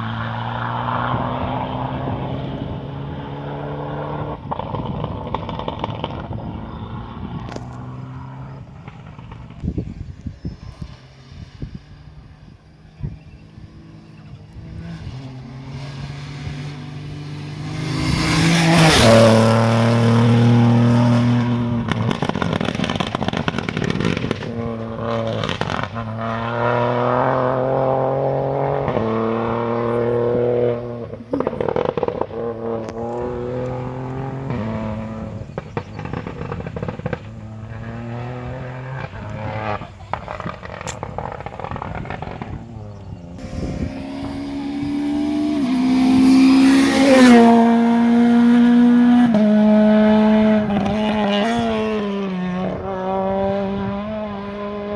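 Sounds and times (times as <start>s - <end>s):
rally car engine accelerating: 0.0s - 54.9s.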